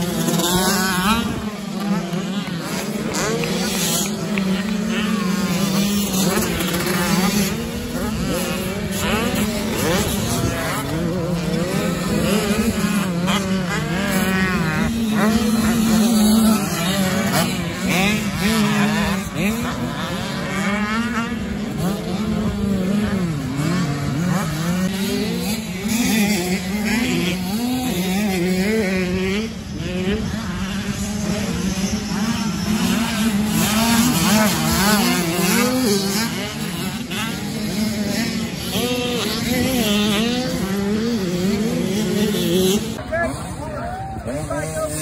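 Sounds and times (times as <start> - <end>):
motocross bike engines revving: 0.0 - 45.0.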